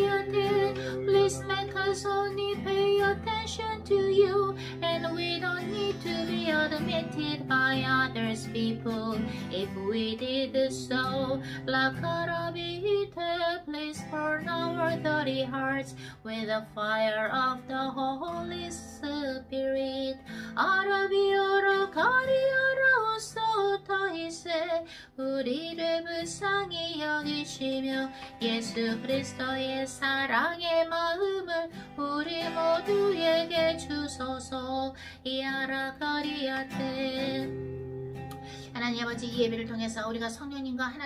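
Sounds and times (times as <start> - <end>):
woman singing: 0.0 - 41.0.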